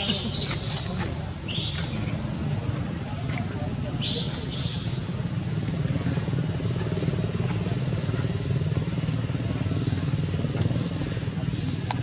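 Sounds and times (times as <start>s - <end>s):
small engine running: 2.2s - 12.0s.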